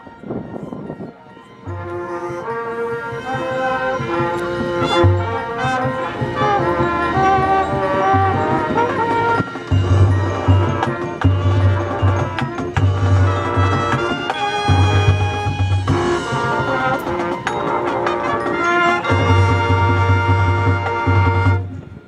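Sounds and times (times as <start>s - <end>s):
percussion: 1.4s - 22.0s
brass chords and runs: 1.6s - 22.0s.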